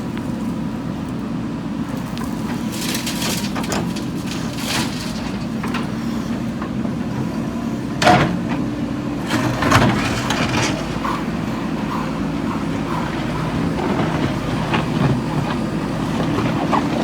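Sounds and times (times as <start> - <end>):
diesel engine running under load: 0.0 - 17.0.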